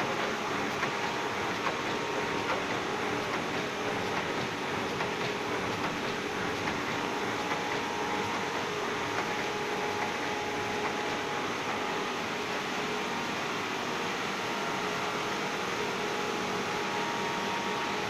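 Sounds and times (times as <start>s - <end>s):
machine running: 0.0s - 18.0s.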